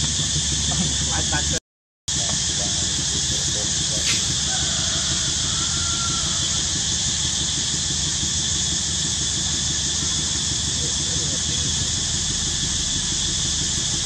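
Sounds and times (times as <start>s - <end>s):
cicada chorus drone: 0.0s - 14.0s.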